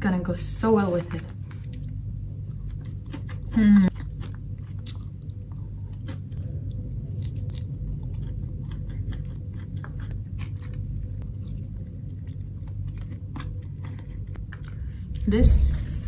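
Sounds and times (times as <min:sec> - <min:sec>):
steady low hum: 0:00.0 - 0:16.0
person chewing food: 0:01.4 - 0:15.2.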